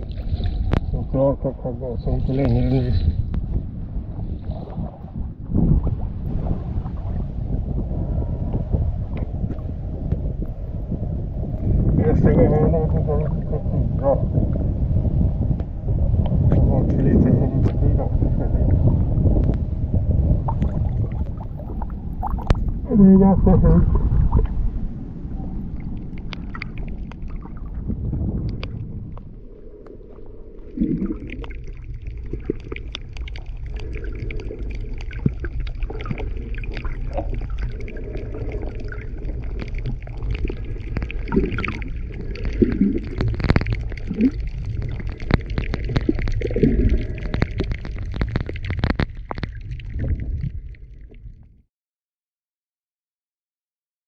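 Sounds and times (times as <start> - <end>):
underwater clicks and crackles: 0.0 - 51.6
water gurgle: 0.0 - 51.6
underwater low rumble: 0.0 - 51.7.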